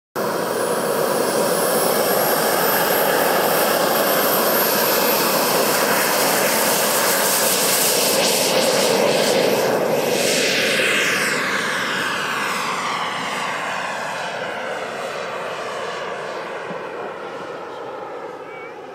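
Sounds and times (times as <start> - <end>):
model jet engine roaring: 0.2 - 18.9.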